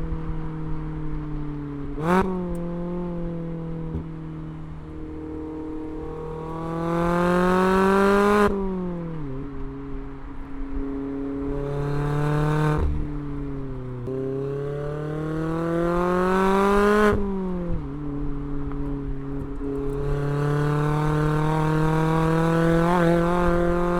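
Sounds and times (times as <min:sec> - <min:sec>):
car engine accelerating hard: 0:01.9 - 0:08.8, 0:11.4 - 0:23.9.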